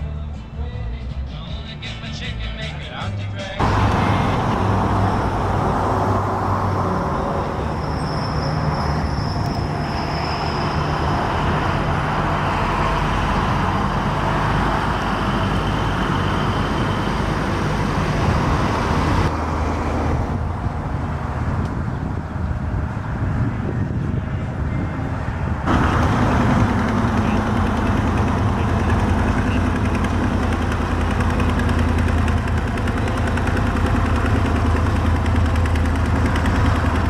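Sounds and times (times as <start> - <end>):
road traffic noise: 0.0 - 37.0
car engines running: 3.6 - 37.0.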